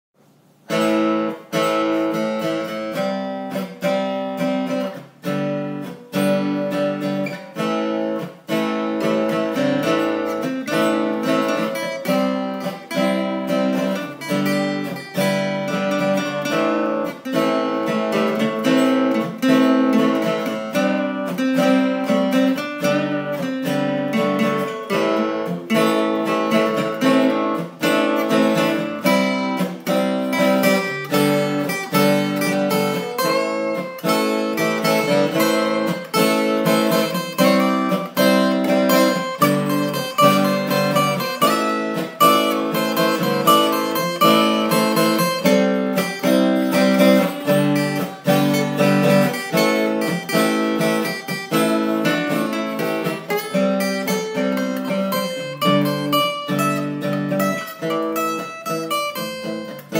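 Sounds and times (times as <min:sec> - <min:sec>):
acoustic guitar strumming chords: 0:00.2 - 0:59.9.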